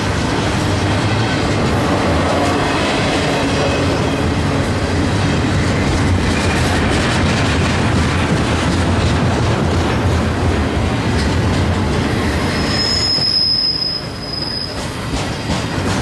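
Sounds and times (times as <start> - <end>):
freight train cars rolling: 0.0 - 16.0.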